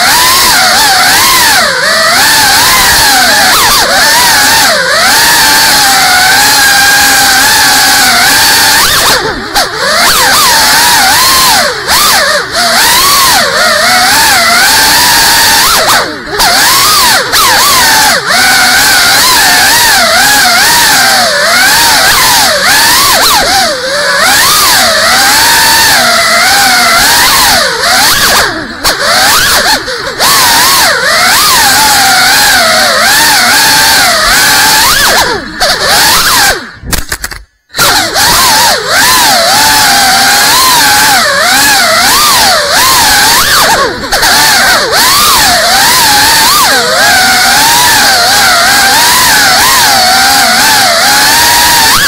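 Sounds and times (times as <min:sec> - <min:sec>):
drone motors whining: 0:00.0 - 0:52.0.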